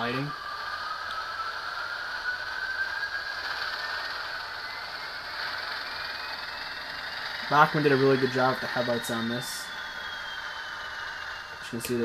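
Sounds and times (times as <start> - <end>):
model train motor whirring: 0.0 - 12.0
thin rising whine: 0.0 - 12.0.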